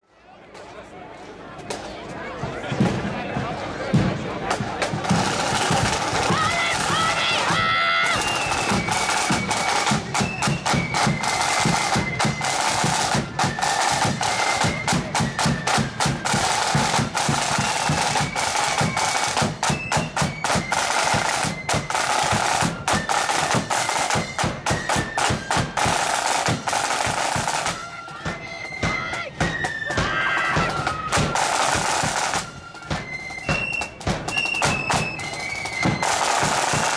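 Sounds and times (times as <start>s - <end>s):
snare drums rolling: 2.7s - 36.9s.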